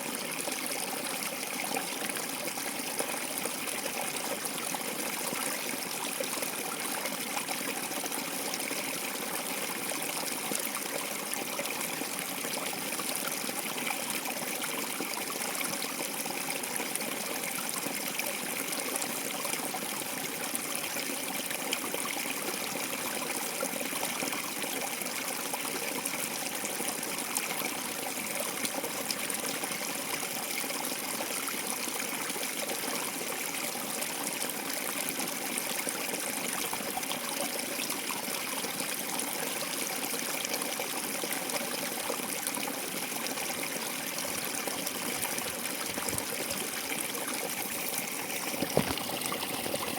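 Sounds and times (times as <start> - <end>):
water flowing and trickling: 0.0 - 49.9.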